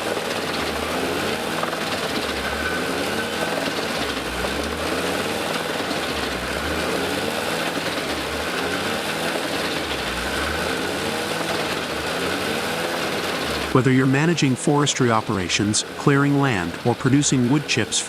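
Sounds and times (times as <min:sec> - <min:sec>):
tractor engine rising and falling: 0:00.0 - 0:18.0
wood chipper chipping: 0:00.0 - 0:18.0.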